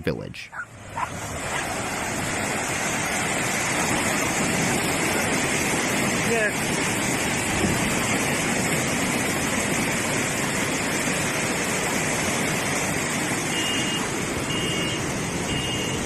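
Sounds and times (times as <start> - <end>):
floodwater rushing: 0.5 - 16.0.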